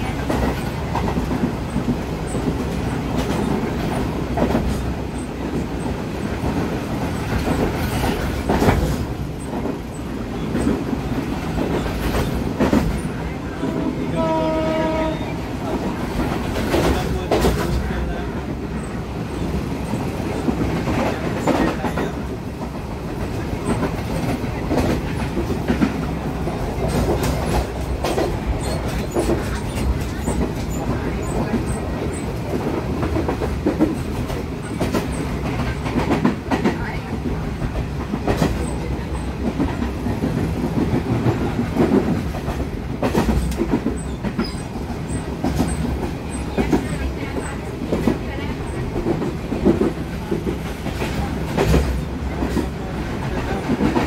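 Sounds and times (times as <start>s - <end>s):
clacks over rail joints: 0.0s - 54.0s
train wheels rumbling on rails: 0.0s - 54.0s.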